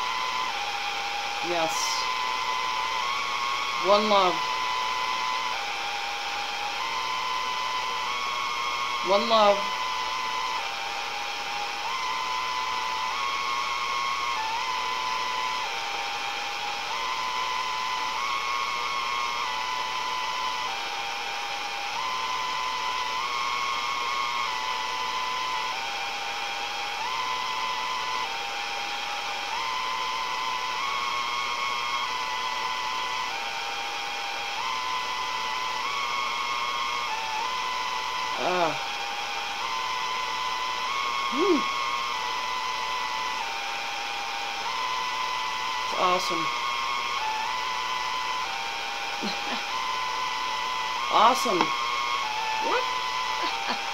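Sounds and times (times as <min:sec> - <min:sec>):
radio static hiss: 0:00.0 - 0:53.9
radio tone changing pitch: 0:00.0 - 0:53.9.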